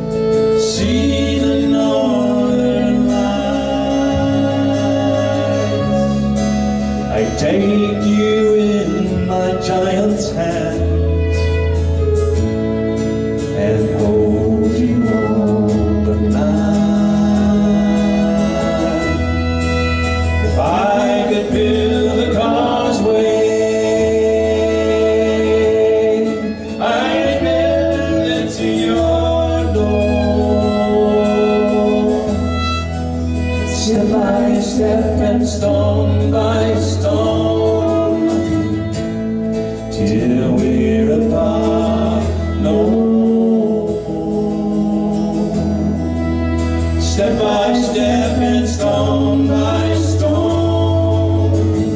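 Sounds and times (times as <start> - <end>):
person singing: 0.0 - 12.4, 13.2 - 51.9
fiddle melody: 0.0 - 51.9
low accompaniment: 0.0 - 51.9.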